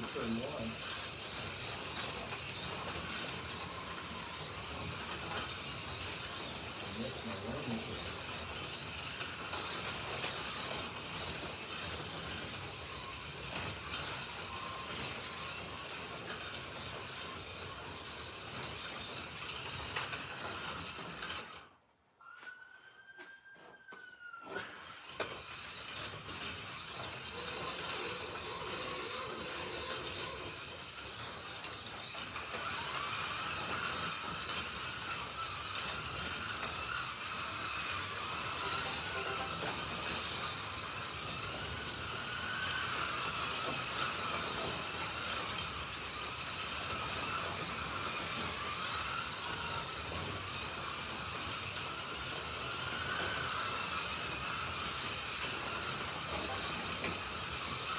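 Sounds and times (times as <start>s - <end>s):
slot car electric motors whining: 0.0s - 57.9s.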